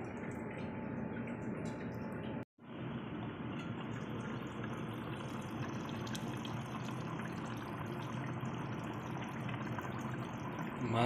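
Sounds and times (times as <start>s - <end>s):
curry bubbling in pot: 0.0s - 11.0s.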